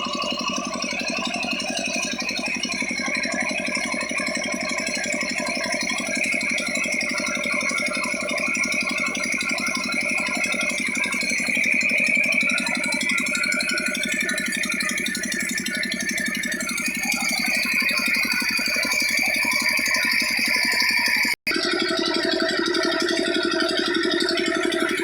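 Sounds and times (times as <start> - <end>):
diesel engine running: 0.0 - 25.0
flour mill rattling: 1.9 - 25.0.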